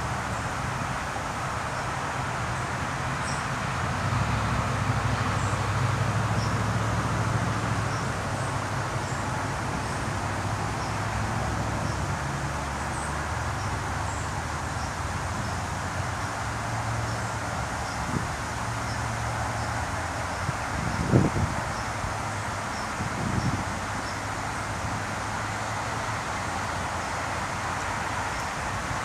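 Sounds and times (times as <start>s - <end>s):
distant engine hum: 0.0s - 29.0s.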